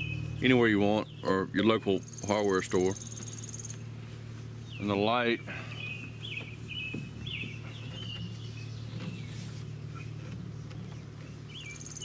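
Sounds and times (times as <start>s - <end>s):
bird chirping: 0.0s - 12.0s
steady low hum: 0.0s - 12.0s.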